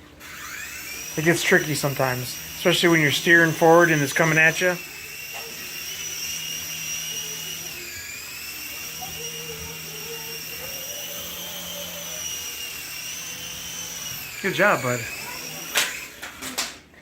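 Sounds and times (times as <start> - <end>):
toy helicopter whine: 0.0 - 16.8.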